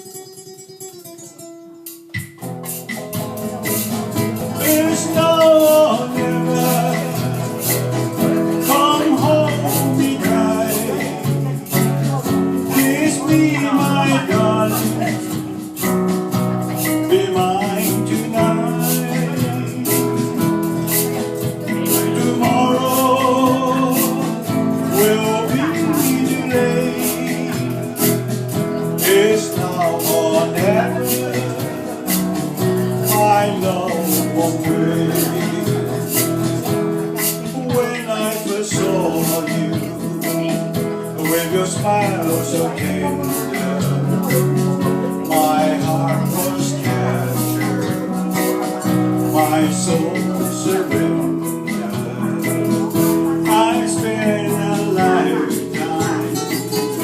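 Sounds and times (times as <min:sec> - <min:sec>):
lead guitar melody: 0:00.0 - 0:57.0
pop band playing: 0:01.1 - 0:57.0.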